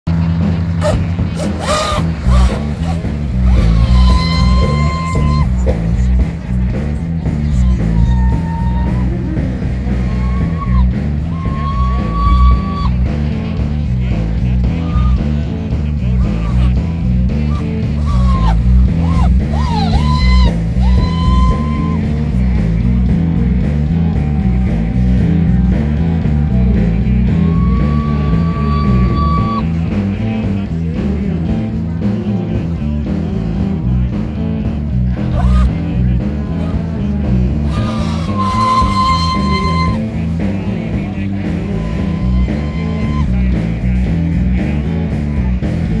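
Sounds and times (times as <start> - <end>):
rock music with guitar: 0.2 - 46.0
repeating bass line: 0.6 - 31.4, 34.0 - 46.0.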